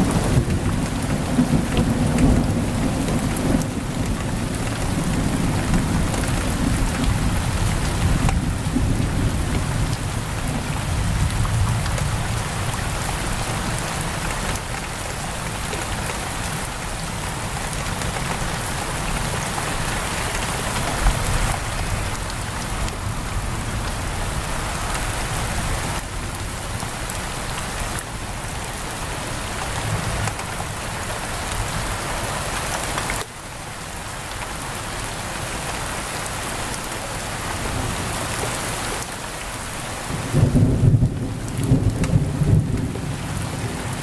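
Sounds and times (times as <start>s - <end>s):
heavy rain drumming on window: 0.0s - 44.0s.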